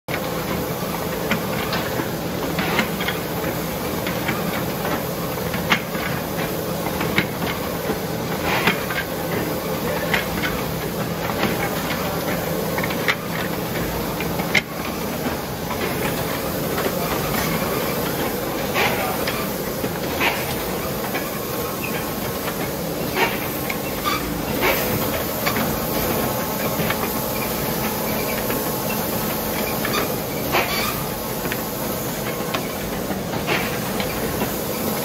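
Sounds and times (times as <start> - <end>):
machine hum and hiss: 0.1 - 35.0.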